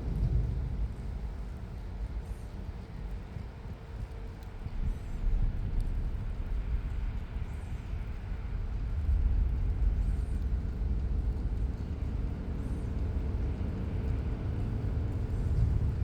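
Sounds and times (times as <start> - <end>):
fire burning with low rumble: 0.0 - 16.0.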